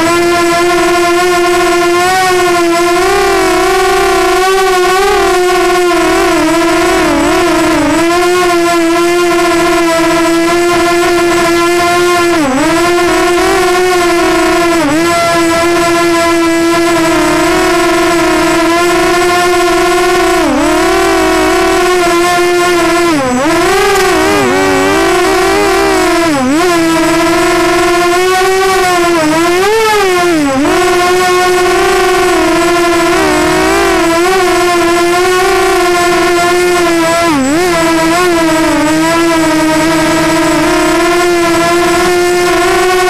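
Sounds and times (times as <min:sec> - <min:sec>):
quadcopter motors whining: 0:00.0 - 0:43.0.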